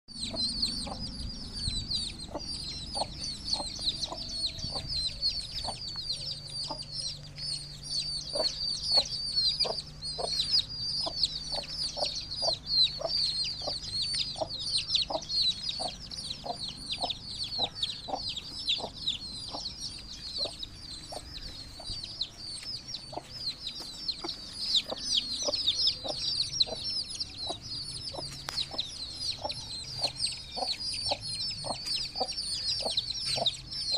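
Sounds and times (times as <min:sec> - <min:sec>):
chicks peeping: 0:00.1 - 0:33.9
hen clucking: 0:00.1 - 0:33.9.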